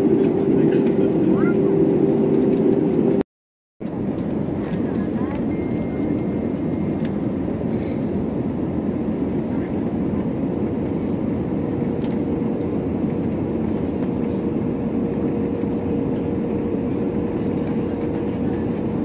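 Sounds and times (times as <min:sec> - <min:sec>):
jet engines and rushing air: 0:00.0 - 0:19.0.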